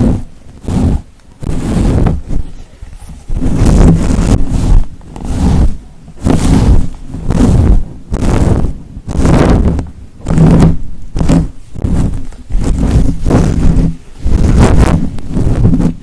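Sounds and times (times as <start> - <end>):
scratching against microphone: 0.0 - 16.0.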